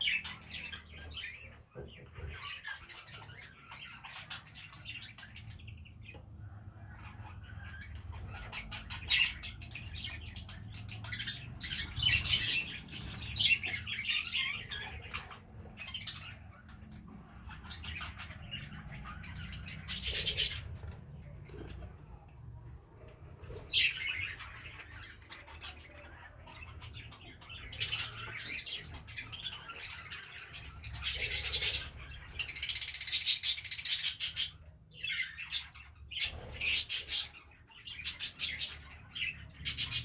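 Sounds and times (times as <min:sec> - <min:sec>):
chicks begging chirps: 0:00.0 - 0:40.0.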